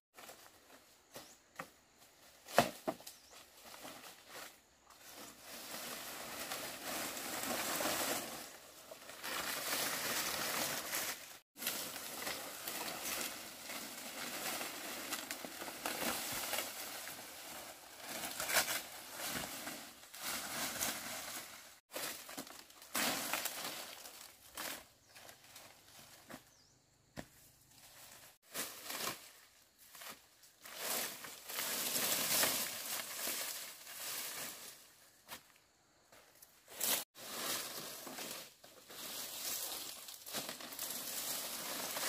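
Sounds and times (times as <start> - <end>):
dry palm fronds crackling: 2.2 - 26.4, 27.2 - 35.4, 36.7 - 42.0.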